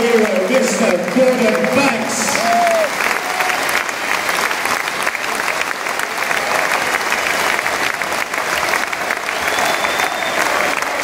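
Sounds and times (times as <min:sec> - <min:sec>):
close hand claps: 0:00.0 - 0:11.0
stadium crowd applauding: 0:00.0 - 0:11.0.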